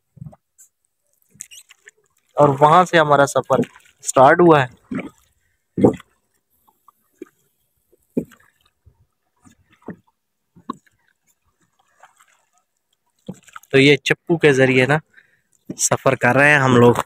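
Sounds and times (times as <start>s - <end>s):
oars splashing in water: 0.0s - 13.8s.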